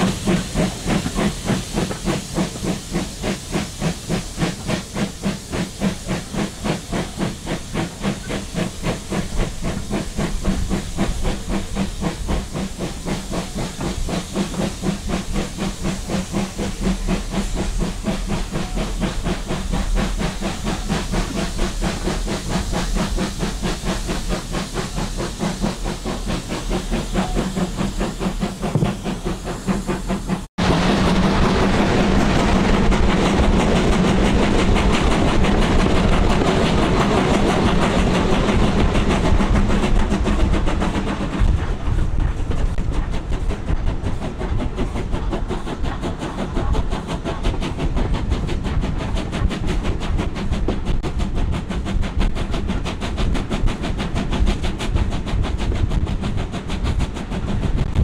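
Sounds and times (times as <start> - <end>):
steam hiss: 0.0 - 58.0
steam locomotive exhaust: 0.0 - 58.0
train wheels on rails: 0.0 - 58.0.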